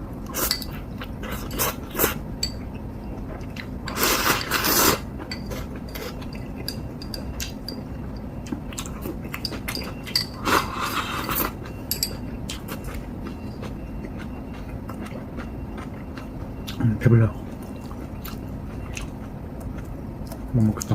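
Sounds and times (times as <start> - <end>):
person chewing: 0.2 - 7.7, 8.4 - 16.8, 17.4 - 20.9.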